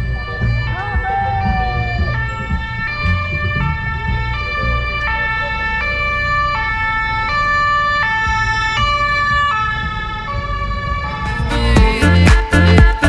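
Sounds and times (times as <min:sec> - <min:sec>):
two-tone emergency siren: 0:00.0 - 0:11.7.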